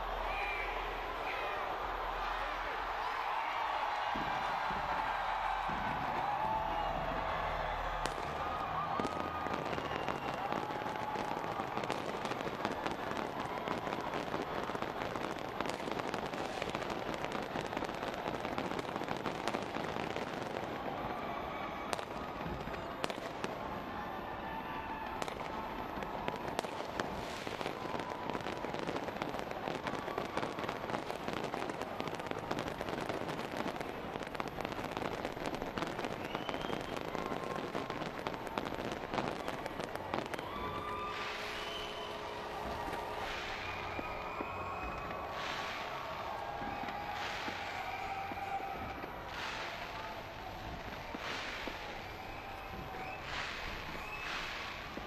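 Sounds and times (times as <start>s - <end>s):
fireworks hiss: 0.0s - 21.2s, 21.8s - 55.0s
fireworks crackling: 0.0s - 55.0s.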